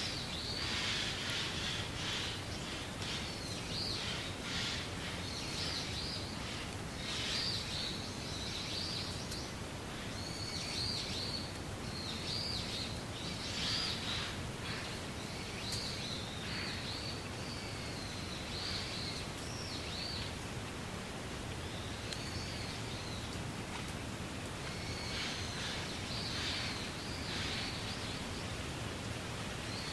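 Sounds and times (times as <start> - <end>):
wind rustling through reeds: 0.0 - 29.9.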